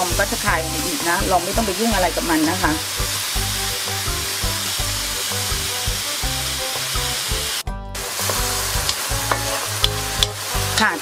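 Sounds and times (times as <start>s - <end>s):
background music with steady beat: 0.0s - 11.0s
meat sizzling in a wok: 0.0s - 11.0s.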